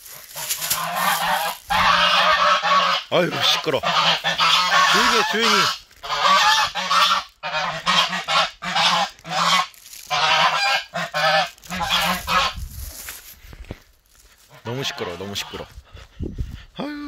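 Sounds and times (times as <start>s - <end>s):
geese honking: 0.0s - 12.6s, 14.5s - 15.8s.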